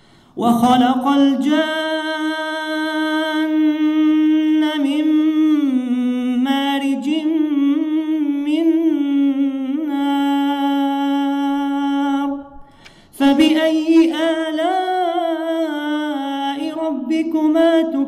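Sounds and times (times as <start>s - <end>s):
man reciting in melodic style: 0.0s - 18.0s.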